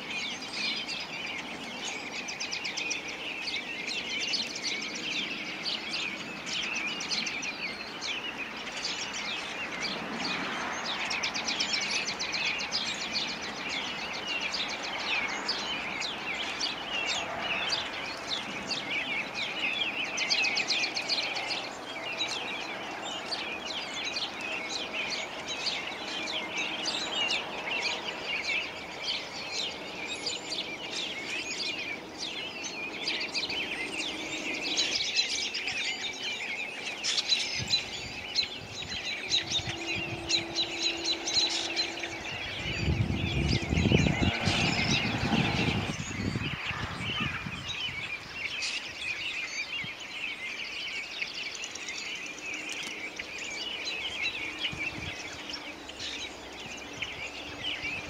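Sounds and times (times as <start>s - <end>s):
songbirds chirping: 0.0s - 58.0s
steady background noise: 0.0s - 58.0s.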